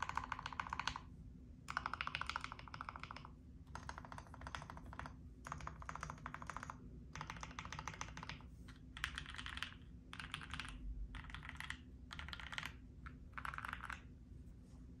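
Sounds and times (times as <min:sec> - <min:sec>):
mechanical keyboard typing: 0:00.0 - 0:01.1, 0:01.7 - 0:08.4, 0:09.0 - 0:14.1.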